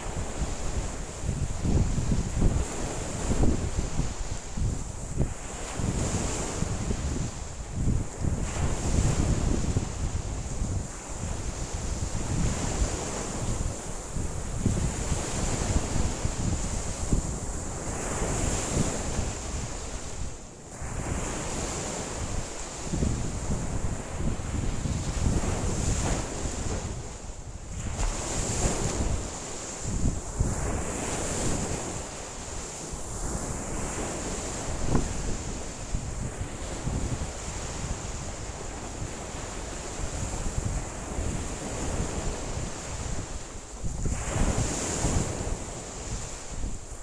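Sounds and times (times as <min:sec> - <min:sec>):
waves breaking on shore: 0:00.0 - 0:47.0
wind buffeting microphone: 0:00.0 - 0:47.0.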